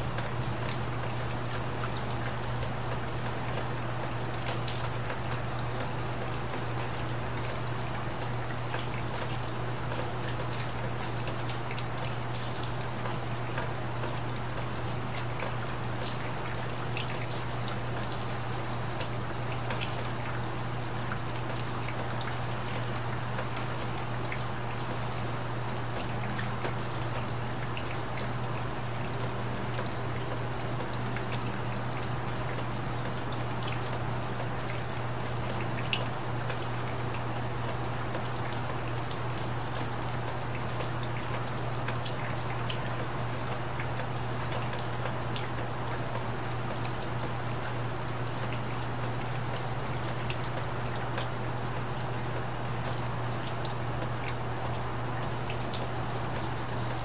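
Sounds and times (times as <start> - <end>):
raindrops ticking: 0.0 - 57.0
steady rain falling: 0.0 - 57.0.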